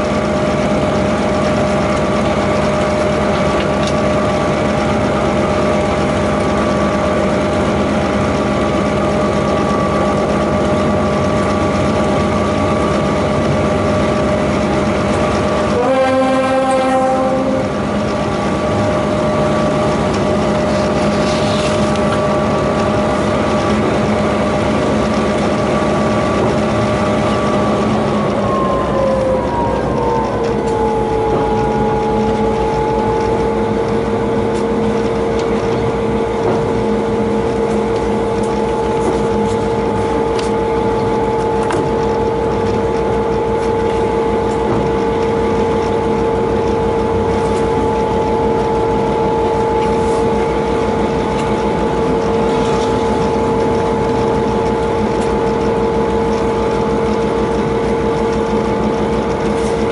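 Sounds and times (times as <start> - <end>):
diesel locomotive engine whine: 0.0 - 59.9.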